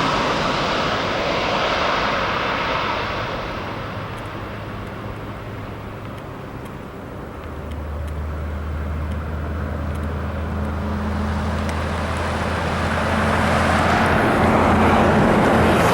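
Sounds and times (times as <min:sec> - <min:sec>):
engine rushing noise: 0:00.0 - 0:15.9.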